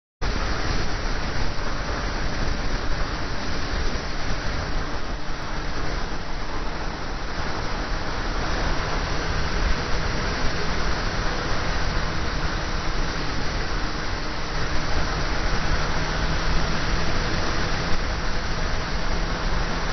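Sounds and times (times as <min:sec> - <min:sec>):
road noise: 0:00.2 - 0:19.9
wind rushing over microphone: 0:00.2 - 0:19.9
motorcycle running: 0:00.3 - 0:19.9.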